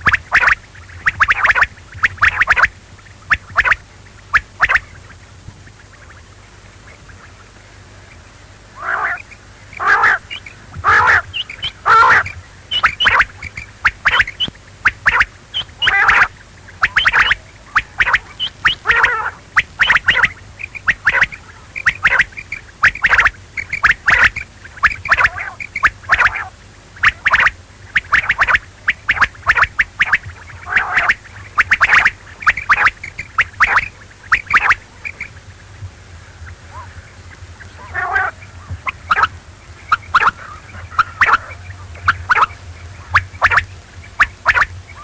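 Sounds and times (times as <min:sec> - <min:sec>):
low hum: 0:00.0 - 0:45.0
quail calling: 0:00.0 - 0:45.0.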